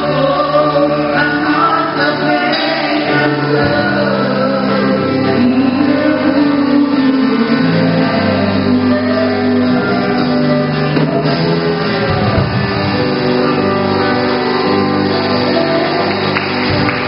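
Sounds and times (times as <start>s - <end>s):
instrumental worship music: 0.0s - 17.0s.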